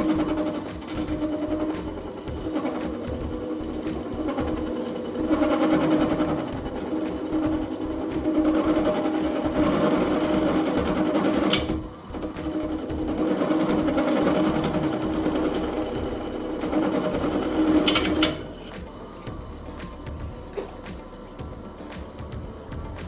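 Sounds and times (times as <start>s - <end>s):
wood lathe cutting: 0.0s - 23.0s.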